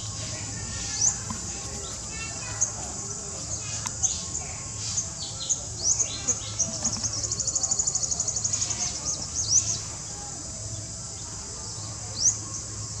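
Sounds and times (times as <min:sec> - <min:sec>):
birds chirping: 0:00.0 - 0:13.0
insects hissing: 0:00.0 - 0:13.0.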